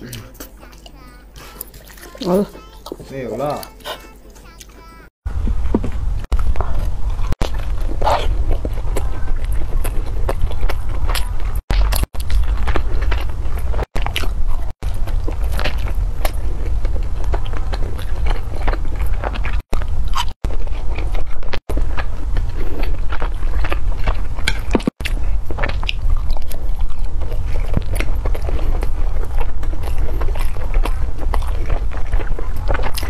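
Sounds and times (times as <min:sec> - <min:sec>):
chewing with wet mouth sounds: 0:00.0 - 0:04.9, 0:06.2 - 0:33.0.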